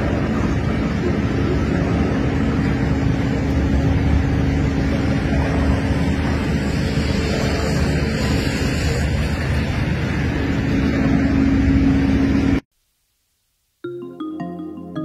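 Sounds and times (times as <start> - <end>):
engine running steadily: 0.0 - 12.6.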